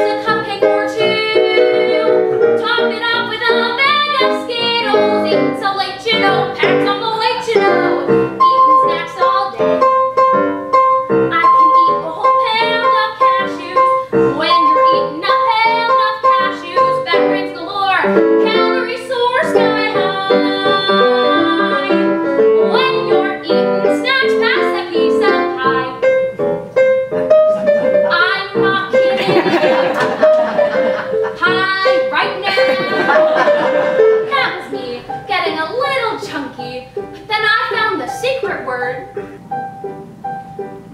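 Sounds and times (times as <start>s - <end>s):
piano show tune accompaniment: 0.0s - 40.9s.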